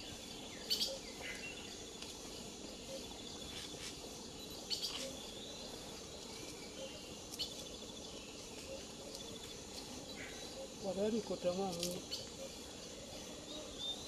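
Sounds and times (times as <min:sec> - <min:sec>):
bird chirps and trills: 0:00.0 - 0:01.8, 0:02.4 - 0:14.0
high drone of insects: 0:00.0 - 0:14.0.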